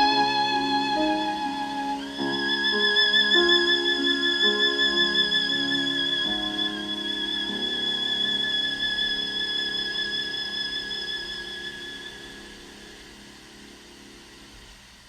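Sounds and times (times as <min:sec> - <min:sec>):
violin music over loudspeakers: 0:00.0 - 0:12.6.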